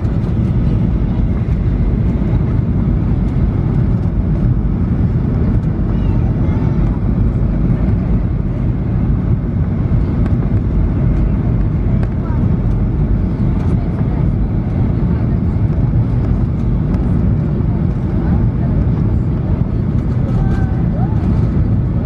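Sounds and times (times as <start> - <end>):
air rushing along fuselage: 0.0 - 22.0
low rumble of jet engines: 0.0 - 22.0.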